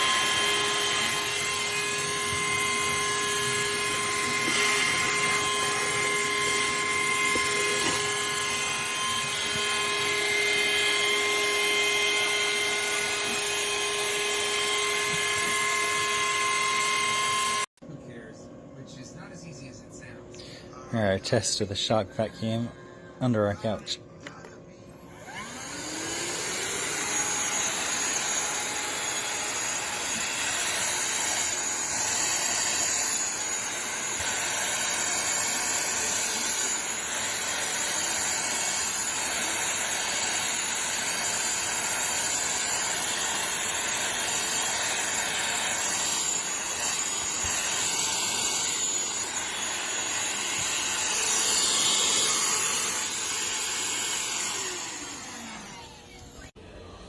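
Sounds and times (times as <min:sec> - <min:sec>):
handheld vacuum running: 0:00.0 - 0:17.7, 0:25.1 - 0:56.6.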